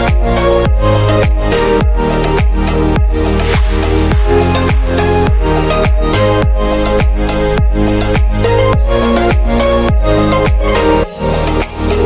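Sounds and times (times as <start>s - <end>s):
electronic music with sustained chords: 0.0s - 12.0s
steady kick drum: 0.1s - 10.6s.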